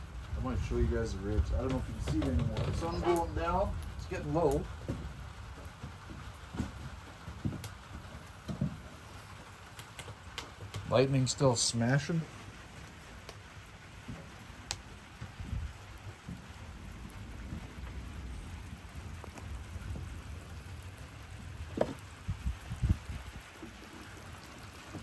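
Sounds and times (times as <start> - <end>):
low thunder rumbles: 0.0 - 9.1, 13.6 - 25.0
steady rain: 0.0 - 25.0.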